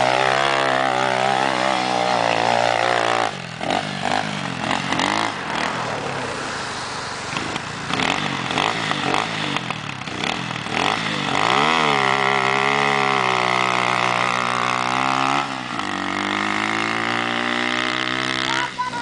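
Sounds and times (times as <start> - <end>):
quad bike engine revving: 0.0 - 19.0.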